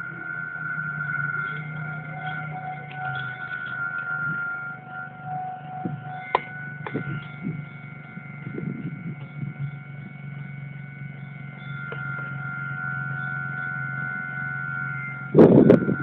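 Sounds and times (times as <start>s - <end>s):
level-crossing warning bell: 0.0s - 16.0s
low rumble: 0.0s - 16.0s.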